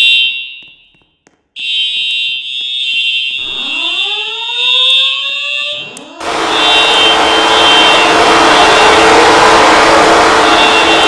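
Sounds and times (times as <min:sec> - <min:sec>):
high-pitched alarm tone: 0:01.6 - 0:11.0
lower sweeping alarm tone: 0:01.6 - 0:11.0.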